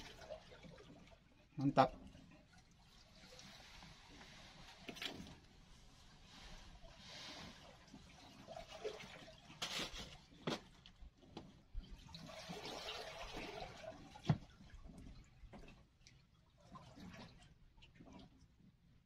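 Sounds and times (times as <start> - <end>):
water splashing and trickling: 0.0 - 19.0.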